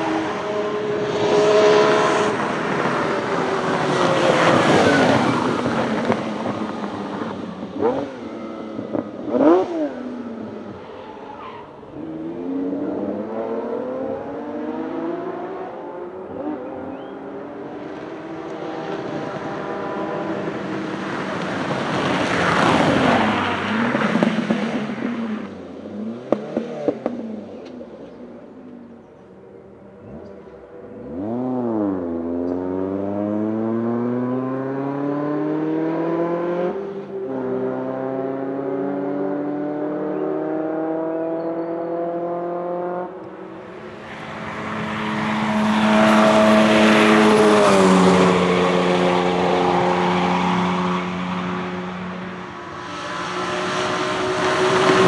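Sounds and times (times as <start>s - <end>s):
racing car engines revving past: 0.0s - 28.2s, 29.9s - 55.0s.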